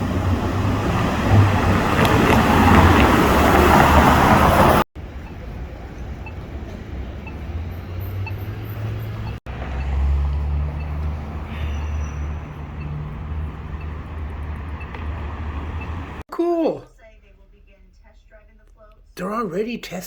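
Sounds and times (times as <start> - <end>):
traffic rumble: 0.0 - 19.7.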